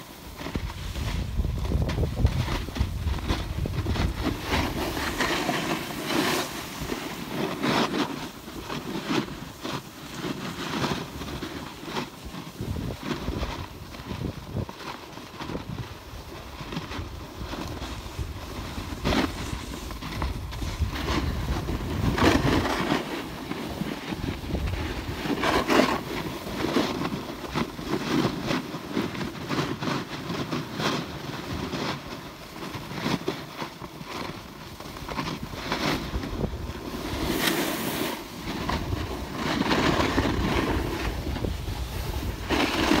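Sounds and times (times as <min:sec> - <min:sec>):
wind rumbling on microphone: 0:00.0 - 0:33.1, 0:33.7 - 0:43.0
skis scraping over packed snow: 0:00.0 - 0:43.0.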